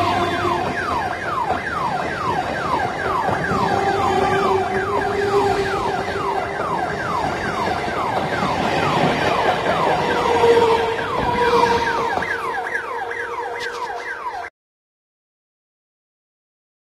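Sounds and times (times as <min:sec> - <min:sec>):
electric train whine: 0:00.0 - 0:14.5.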